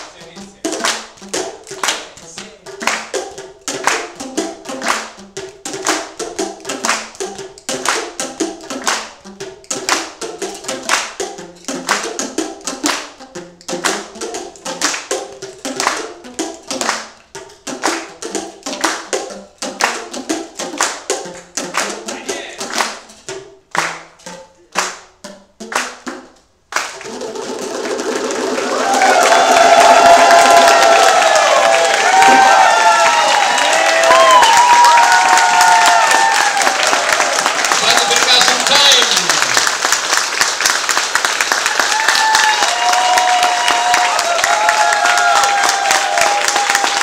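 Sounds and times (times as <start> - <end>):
hand claps: 0.0 - 47.0
plastic percussion tubes struck: 0.0 - 47.0.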